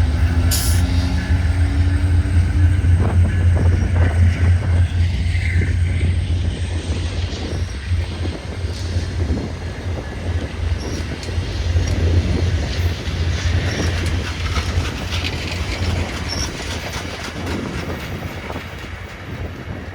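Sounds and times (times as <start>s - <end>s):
train wheels rumbling on rail: 0.0s - 19.9s.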